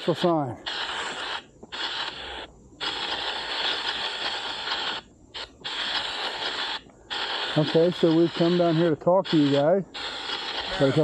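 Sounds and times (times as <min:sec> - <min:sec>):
radio-like static bursts: 0:00.0 - 0:11.0.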